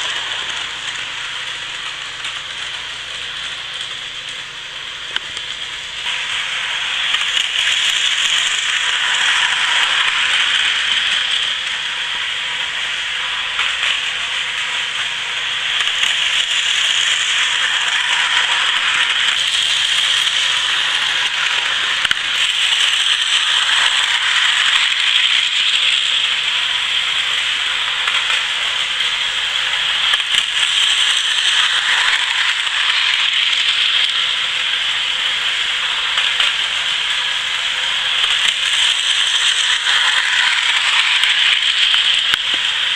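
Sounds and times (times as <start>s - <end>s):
model train motor whirring and rattling: 0.0s - 42.9s.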